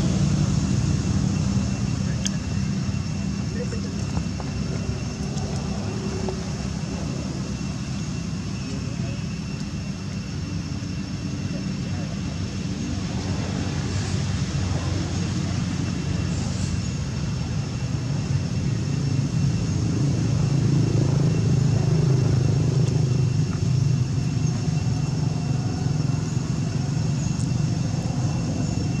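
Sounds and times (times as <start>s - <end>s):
high insect tone: 0.0s - 29.0s
low engine drone: 0.0s - 29.0s.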